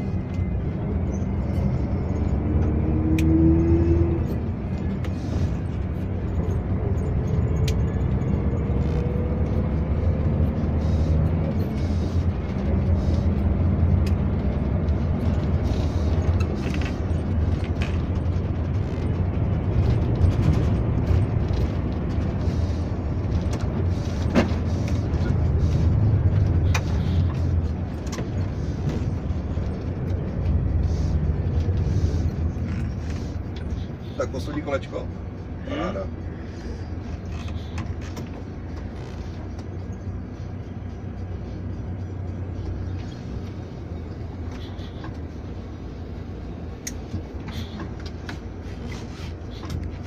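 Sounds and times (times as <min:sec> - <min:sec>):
diesel engine drone: 0:00.0 - 0:50.0
road rumble: 0:00.0 - 0:50.0.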